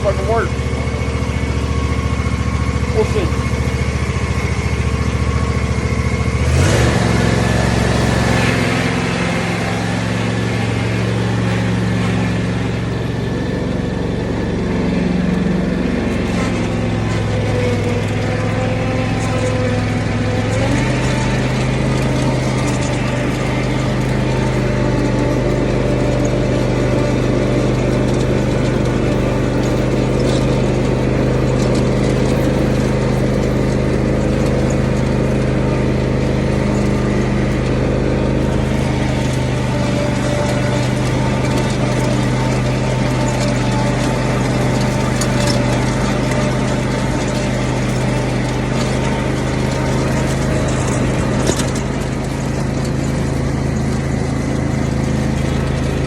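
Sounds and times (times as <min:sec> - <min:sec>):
riding lawn mower engine running: 0:00.0 - 0:56.0.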